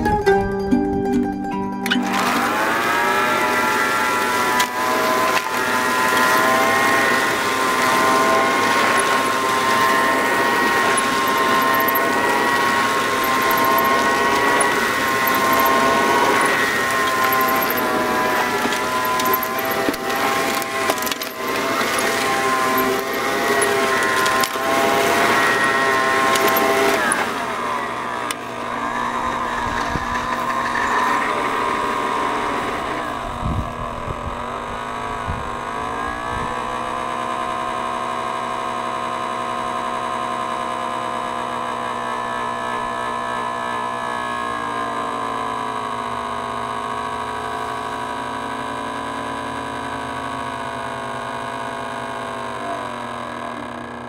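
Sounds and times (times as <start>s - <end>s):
vacuum cleaner motor: 1.8s - 54.0s.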